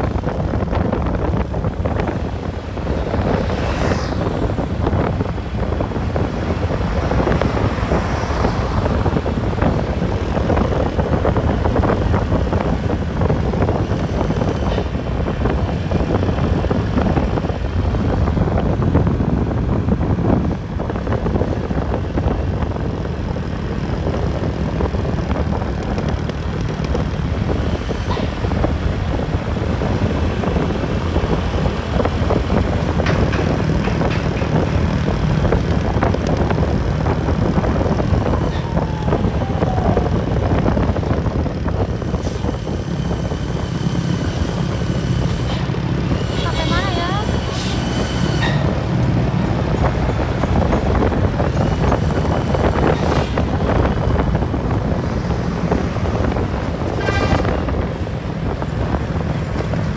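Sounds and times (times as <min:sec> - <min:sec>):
road noise: 0:00.0 - 0:59.9
vehicle engine rumble: 0:00.0 - 0:59.9
wind buffeting microphone: 0:00.0 - 0:59.9.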